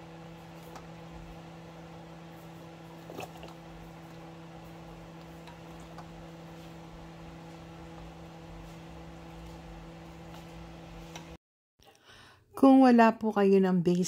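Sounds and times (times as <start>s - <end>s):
appliance electrical hum: 0.0s - 14.0s.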